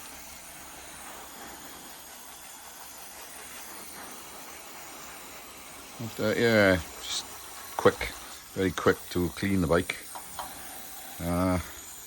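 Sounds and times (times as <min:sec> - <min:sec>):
water spraying from hose: 0:00.0 - 0:12.0.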